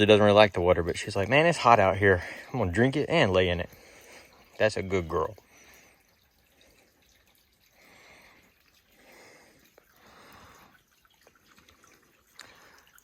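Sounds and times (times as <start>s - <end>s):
faint stream trickling: 0.0s - 13.0s.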